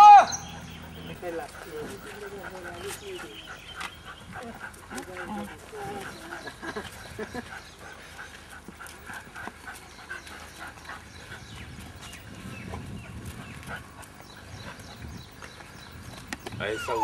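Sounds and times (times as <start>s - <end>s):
dogs whining and yelping: 0.2s - 17.0s
scuffling paws: 0.5s - 17.0s.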